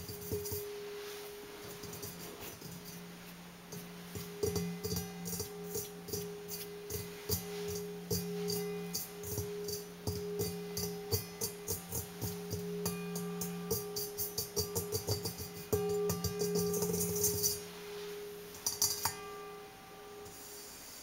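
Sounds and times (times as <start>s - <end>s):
fingers tapping steel bowl: 0.0s - 20.4s
bowl ringing: 0.0s - 20.8s.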